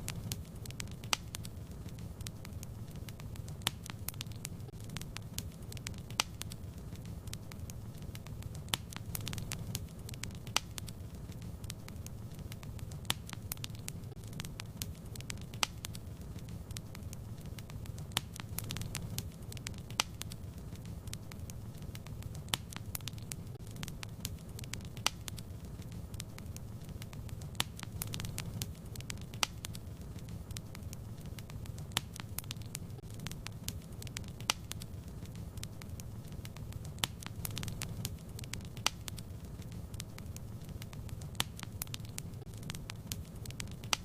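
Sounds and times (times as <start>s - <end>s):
fire crackling in fireplace: 0.0s - 44.0s.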